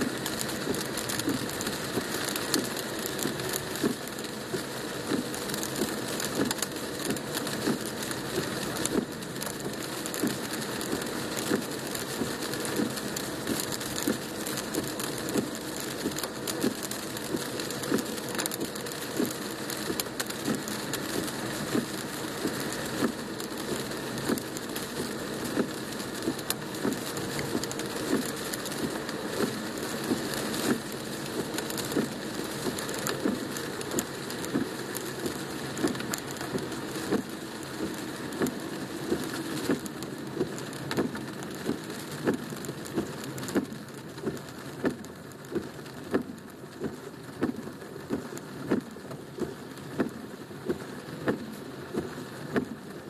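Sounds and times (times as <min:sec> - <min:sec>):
heavy rain on car roof: 0:00.0 - 0:53.0.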